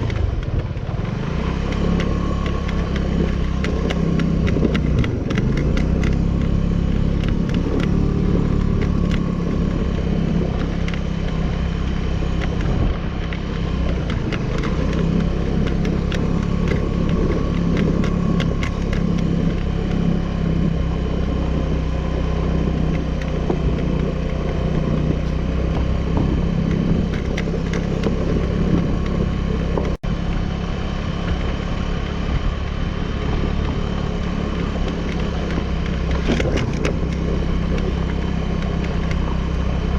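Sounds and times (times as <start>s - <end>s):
road noise: 0.0s - 39.9s
scooter engine running: 0.0s - 39.9s.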